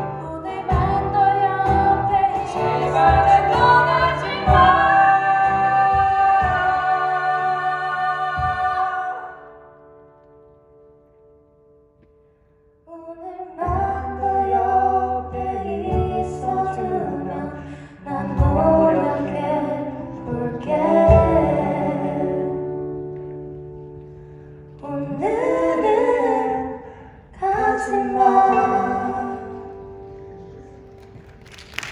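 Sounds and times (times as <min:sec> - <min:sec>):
person singing pop ballad: 0:00.0 - 0:09.7, 0:13.0 - 0:23.6, 0:24.7 - 0:30.6.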